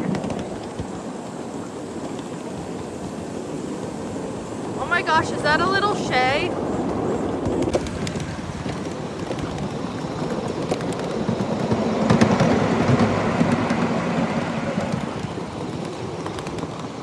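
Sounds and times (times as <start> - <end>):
miniature train wheels rumbling: 0.0 - 17.0.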